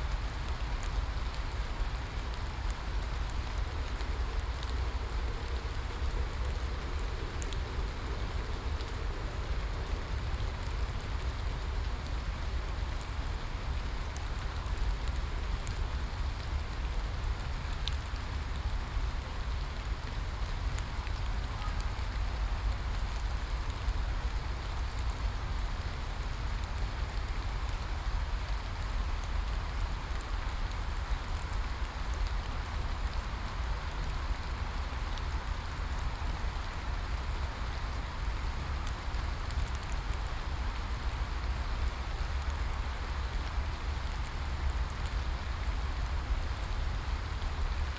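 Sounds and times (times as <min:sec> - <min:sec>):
rain falling: 0:00.0 - 0:47.9
raindrop ticks: 0:00.1 - 0:47.9.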